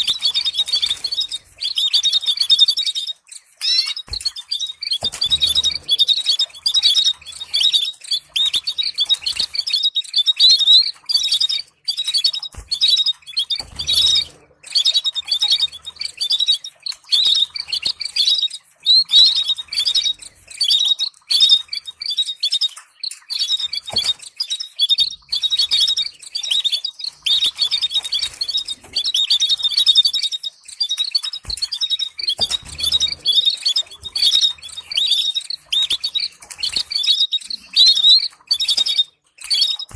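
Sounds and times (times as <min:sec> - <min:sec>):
canary singing trills and chirps: 0:00.0 - 0:39.9.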